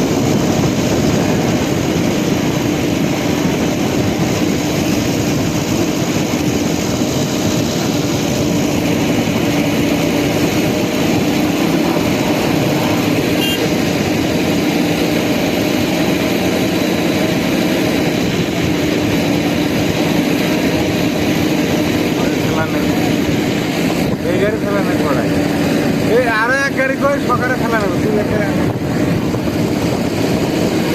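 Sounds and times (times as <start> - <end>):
engine-like drone: 0.0 - 30.9.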